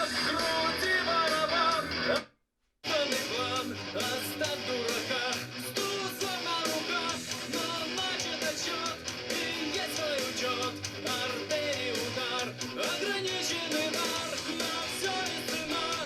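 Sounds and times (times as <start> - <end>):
rock song through small speaker: 0.0 - 16.0.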